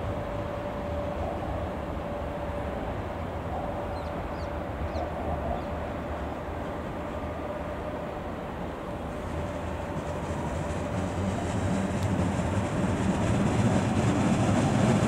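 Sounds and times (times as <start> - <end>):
electric locomotive running past: 0.0 - 15.0.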